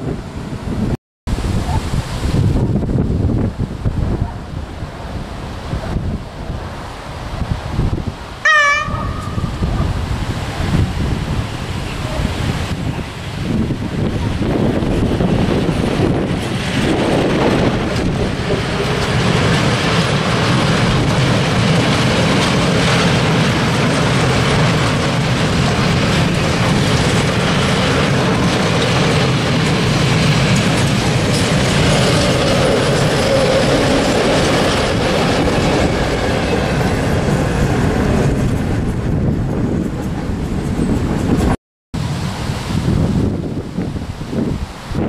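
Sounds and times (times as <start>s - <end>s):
train wheels running on rails: 2.8s - 45.0s.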